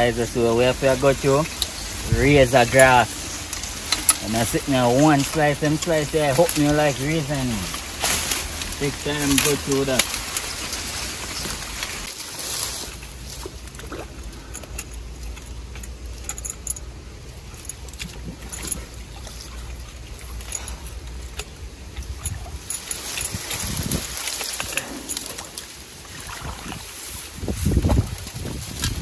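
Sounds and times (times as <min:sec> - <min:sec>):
gear clicking and clinking: 0:00.0 - 0:25.9
grass and reeds rustling: 0:00.0 - 0:29.0
water sloshing: 0:00.0 - 0:29.0.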